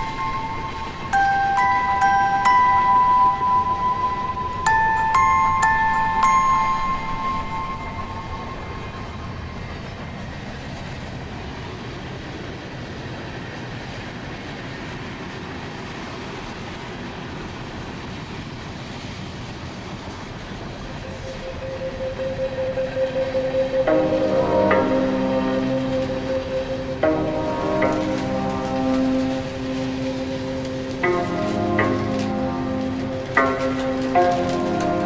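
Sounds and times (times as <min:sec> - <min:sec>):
train carriage rumbling on rails: 0:00.0 - 0:35.0.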